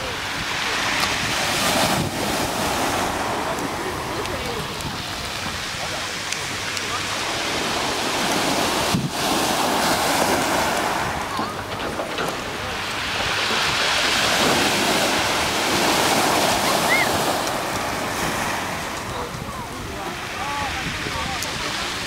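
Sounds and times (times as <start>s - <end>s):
surf washing over pebbles: 0.0s - 22.0s.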